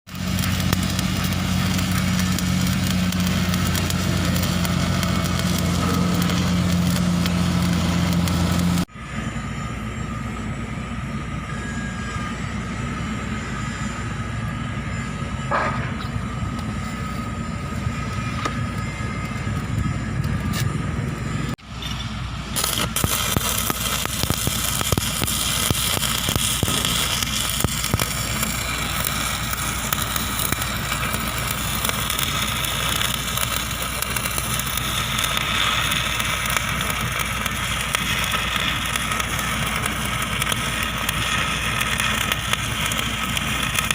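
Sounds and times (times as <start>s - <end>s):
welding arc crackling: 0.1s - 8.9s, 15.5s - 43.9s.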